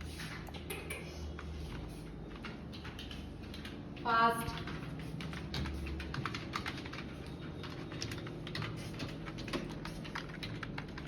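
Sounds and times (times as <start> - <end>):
fast keyboard typing: 0.3 - 11.0.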